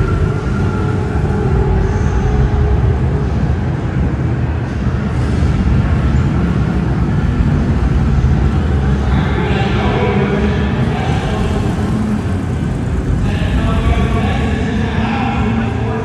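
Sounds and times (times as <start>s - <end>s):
car engines running: 0.0s - 16.0s.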